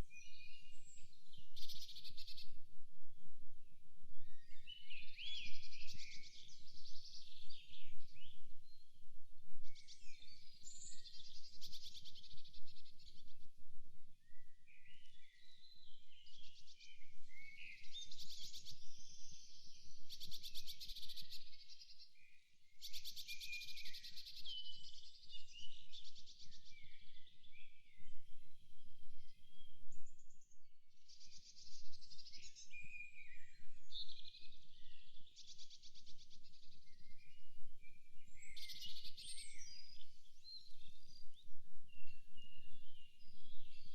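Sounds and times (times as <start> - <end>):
forest birds singing and calling: 0.0 - 13.5, 14.2 - 43.9.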